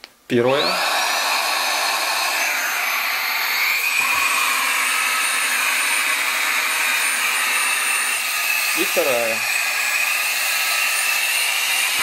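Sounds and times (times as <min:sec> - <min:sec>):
handheld vacuum motor whine: 0:00.5 - 0:12.0.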